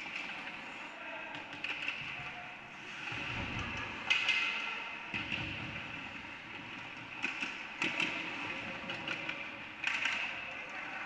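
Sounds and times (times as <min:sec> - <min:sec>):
hockey sticks and puck clacking: 0:00.0 - 0:02.4, 0:03.4 - 0:11.0.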